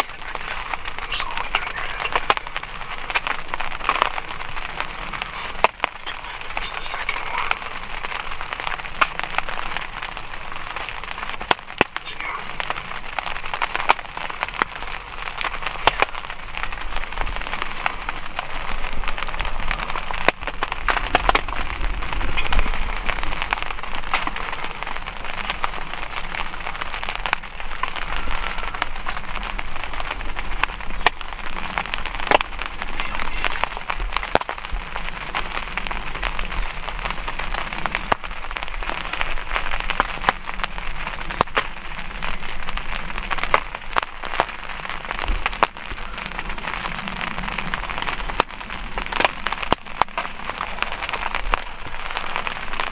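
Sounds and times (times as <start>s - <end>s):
rain pattering: 0.0s - 52.9s
sharp raindrop hits: 0.0s - 52.9s.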